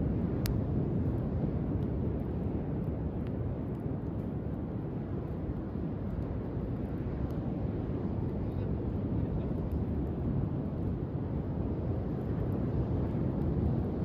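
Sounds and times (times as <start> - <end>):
bonfire crackling: 0.0 - 14.0
wind: 0.0 - 14.0.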